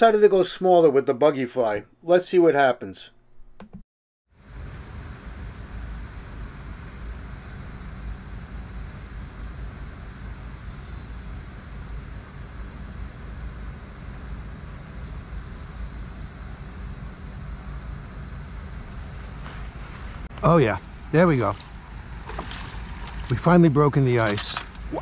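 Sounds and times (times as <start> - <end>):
even hiss: 4.4 - 25.0.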